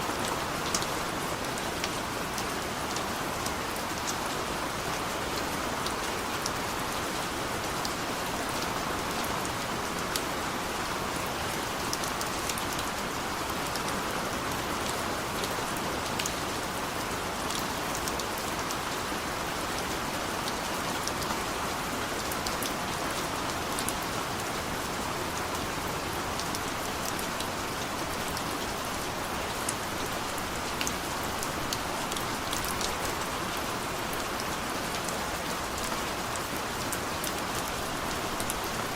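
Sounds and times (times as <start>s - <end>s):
raindrops ticking on a surface: 0.1s - 38.9s.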